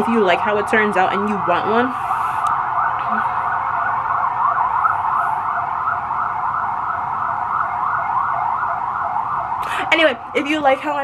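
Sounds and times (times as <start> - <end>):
emergency vehicle siren: 0.0 - 11.0.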